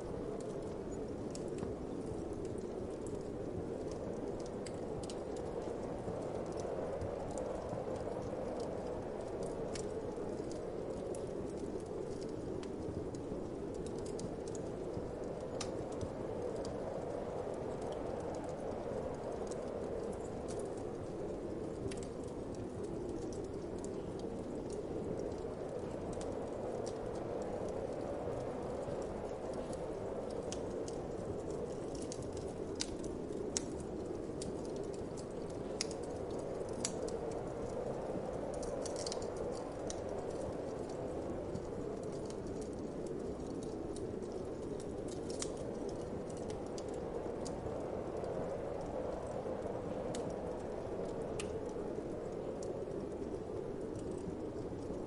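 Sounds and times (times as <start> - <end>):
fire pops and ticks: 0.0 - 55.0
low rush of wind: 0.0 - 55.0
wood fire crackling: 0.0 - 55.0.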